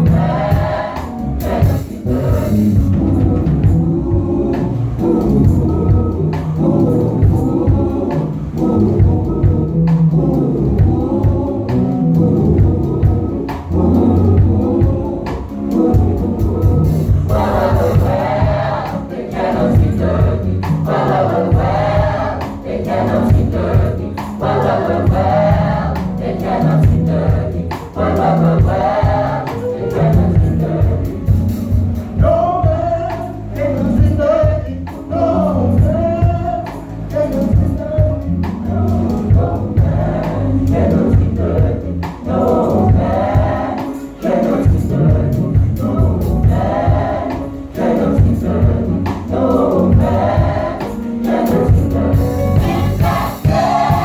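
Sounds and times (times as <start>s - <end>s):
band playing: 0.0s - 54.0s
steady drum beat: 0.0s - 54.0s
vocal group singing in harmony: 0.0s - 54.0s.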